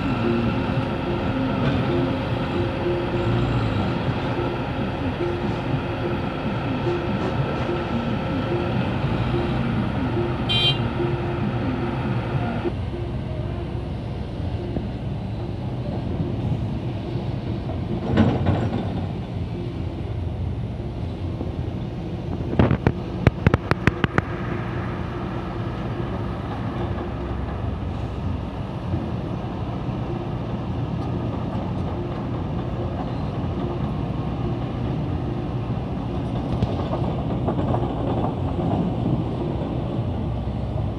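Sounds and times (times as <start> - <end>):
heavy vehicle engines running: 0.0 - 40.9.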